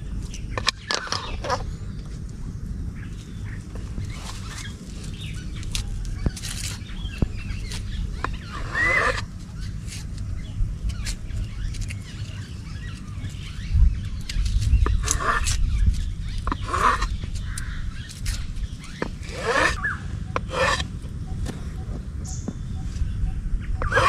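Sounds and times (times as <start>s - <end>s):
bird calls: 0.0s - 2.2s, 2.9s - 24.0s
steady low rumble: 0.0s - 24.0s.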